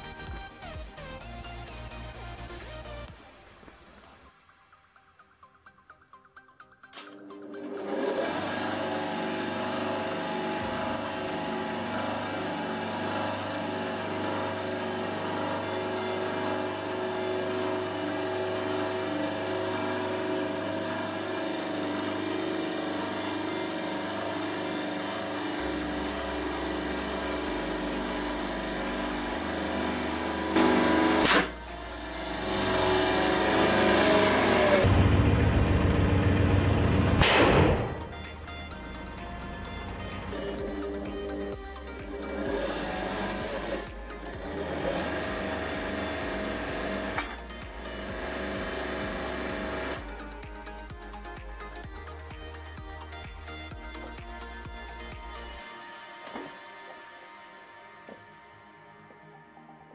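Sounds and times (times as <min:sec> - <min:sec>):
background music: 0:00.0 - 0:59.9
hydraulic press drone: 0:06.9 - 0:59.2.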